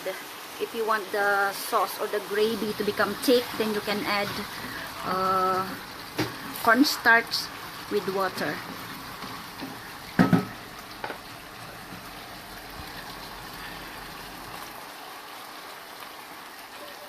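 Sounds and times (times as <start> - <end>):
gravy boiling and bubbling: 1.8 - 17.0.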